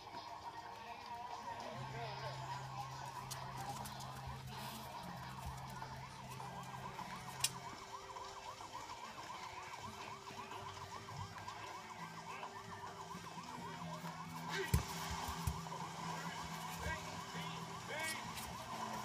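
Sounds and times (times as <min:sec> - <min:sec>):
electronic siren yelp: 0:01.6 - 0:19.0.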